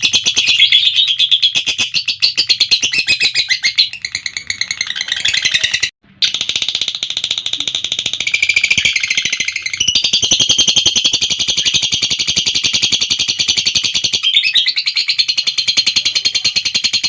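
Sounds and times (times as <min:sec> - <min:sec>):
lovebird chattering trill: 0:00.0 - 0:17.0.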